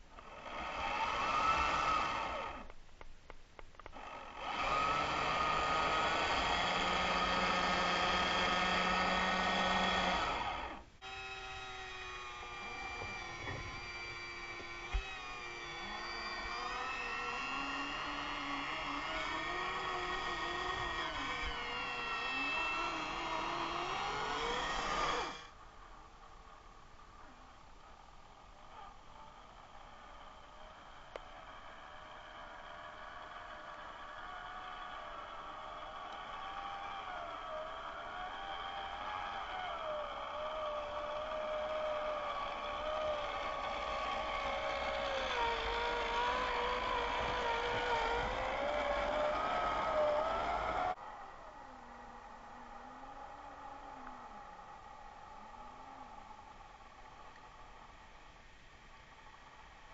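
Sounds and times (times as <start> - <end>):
small electric motor whining: 0.0 - 2.8, 3.8 - 25.6, 27.2 - 58.0.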